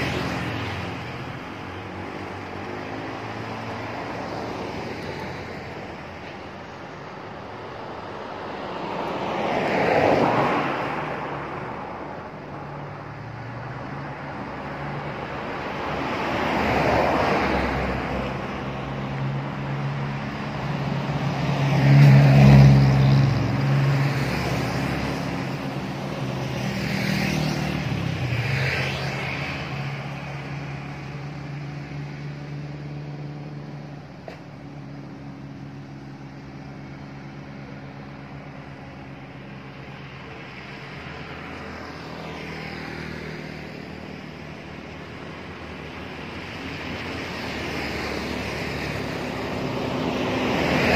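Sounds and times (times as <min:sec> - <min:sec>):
road traffic passing: 0:00.0 - 0:50.9.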